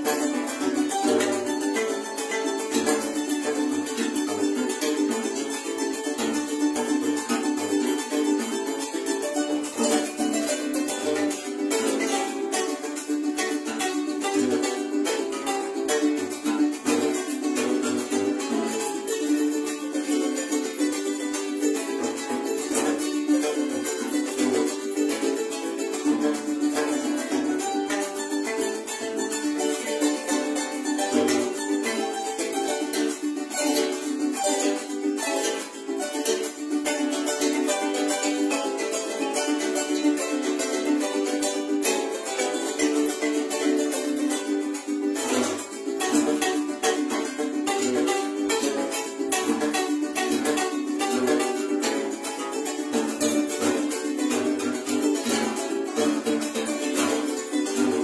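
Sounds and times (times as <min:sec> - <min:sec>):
harp plucked notes: 0:00.0 - 0:58.0.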